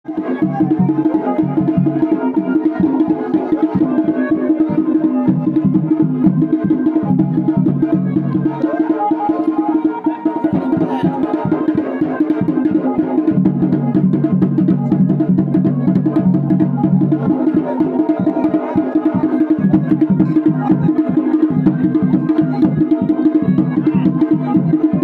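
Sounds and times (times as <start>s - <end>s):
drums in fast rhythm: 0.1s - 25.0s.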